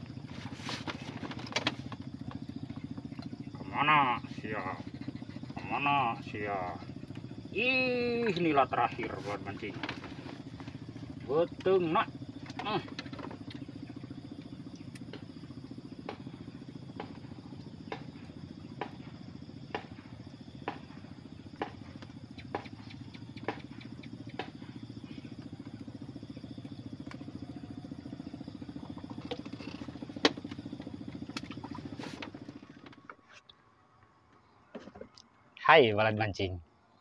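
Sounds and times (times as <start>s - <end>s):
small engine running: 0.0s - 33.4s.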